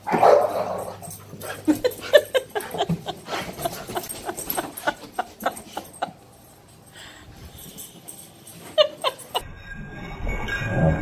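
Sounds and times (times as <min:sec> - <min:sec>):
dogs playing sounds: 0:00.0 - 0:09.4.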